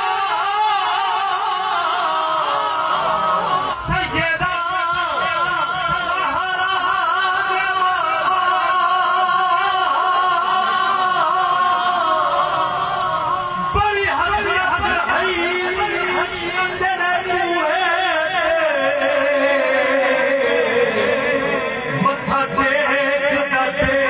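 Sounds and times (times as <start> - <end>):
man singing through loudspeakers: 0.0 - 24.0.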